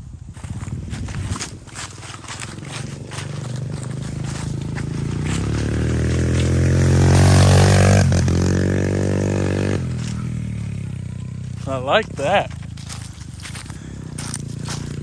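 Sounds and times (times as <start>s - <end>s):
pit bike engine passing by: 0.4s - 15.0s.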